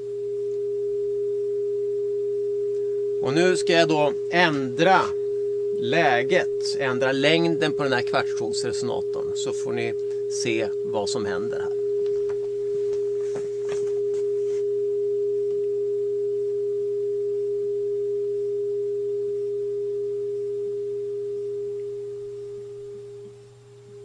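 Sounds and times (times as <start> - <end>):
steady pure tone: 0.0 - 24.0.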